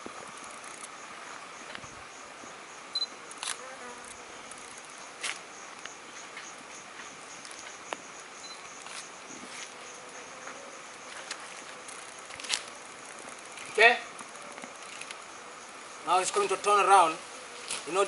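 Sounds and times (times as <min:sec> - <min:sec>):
insect trilling: 0:00.0 - 0:18.0.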